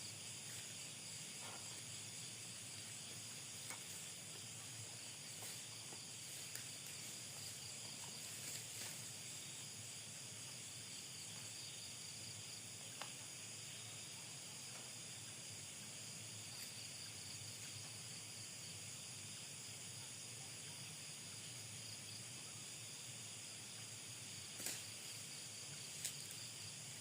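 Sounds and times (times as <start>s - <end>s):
chorus of night insects: 0.0s - 27.0s.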